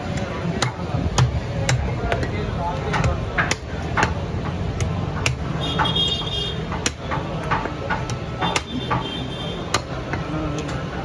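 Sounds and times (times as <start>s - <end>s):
cleaver chopping onto wooden block: 0.1s - 2.3s, 2.9s - 5.9s, 6.6s - 9.0s, 9.6s - 10.8s.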